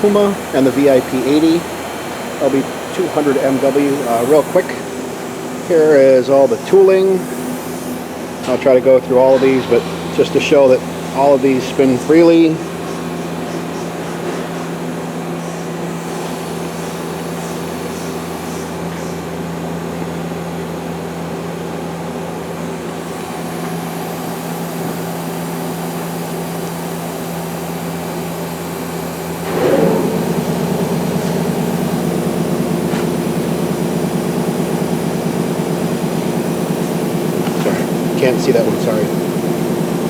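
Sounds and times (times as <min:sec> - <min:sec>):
machine hum: 0:00.0 - 0:40.0.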